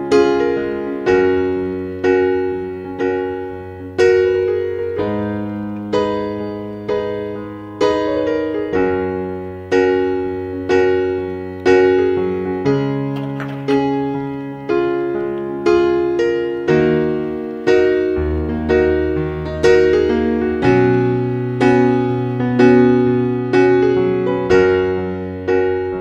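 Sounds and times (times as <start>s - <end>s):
slow piano piece: 0.0s - 26.0s.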